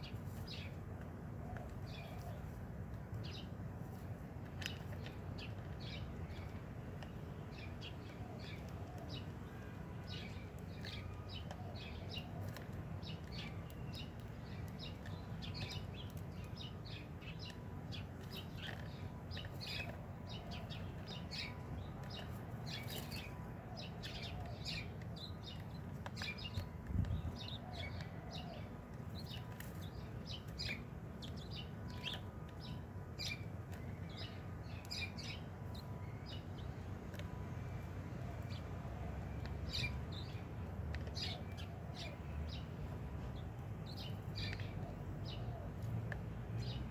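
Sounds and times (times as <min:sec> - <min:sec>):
sparrows chirping: 0:00.0 - 0:46.9.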